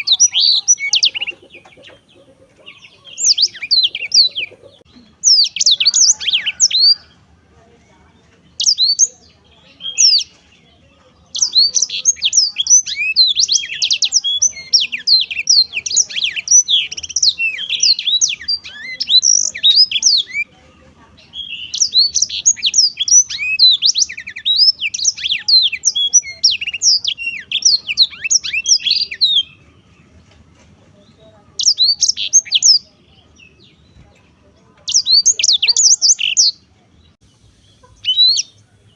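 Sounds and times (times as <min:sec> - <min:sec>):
canary singing high twitters: 0:00.0 - 0:07.3, 0:08.4 - 0:30.4, 0:31.0 - 0:38.9.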